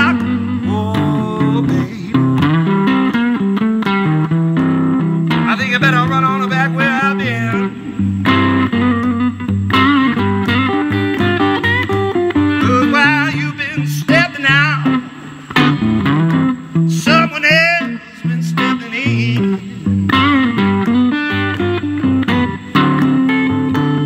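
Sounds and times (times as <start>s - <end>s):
bass notes: 0.0s - 17.7s, 18.3s - 24.0s
electric guitar blues solo: 0.0s - 24.0s.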